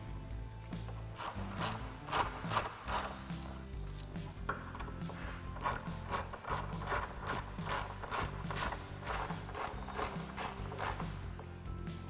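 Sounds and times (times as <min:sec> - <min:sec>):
hand ratchet clicking: 0:00.9 - 0:11.6.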